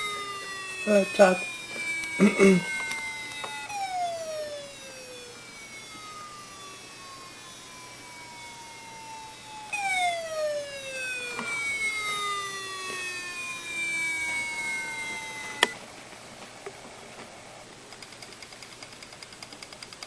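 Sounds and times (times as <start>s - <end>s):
hard disk whining tone: 0.0s - 20.0s.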